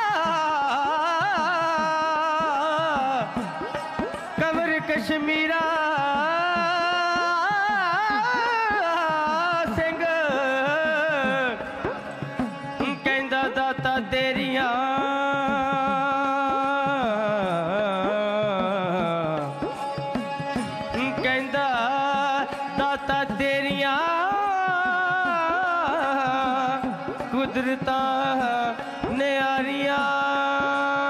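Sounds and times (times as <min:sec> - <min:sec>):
small hand drums: 0:00.0 - 0:31.0.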